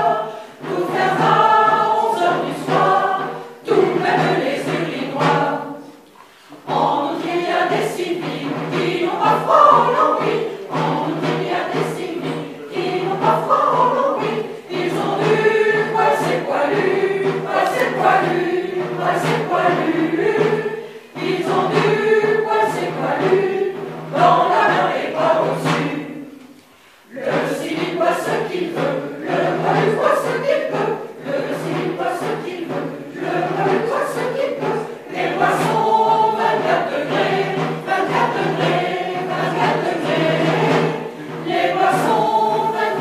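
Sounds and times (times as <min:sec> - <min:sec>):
mixed choir singing: 0:00.0 - 0:43.0.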